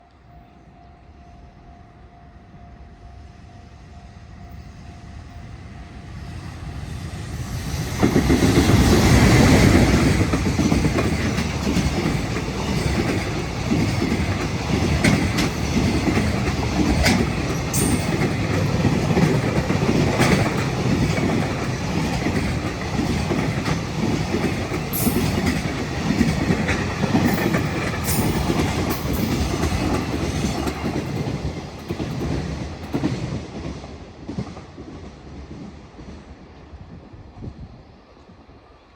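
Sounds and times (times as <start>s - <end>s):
freight train passing: 0.0s - 38.9s
clickety-clack of train wheels: 6.1s - 38.4s.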